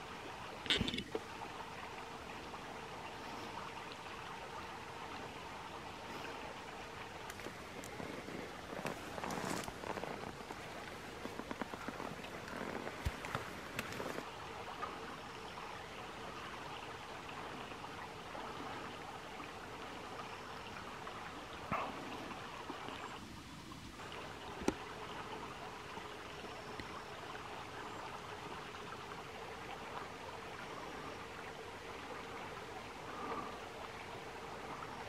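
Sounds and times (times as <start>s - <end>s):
stream running: 0.0s - 35.0s.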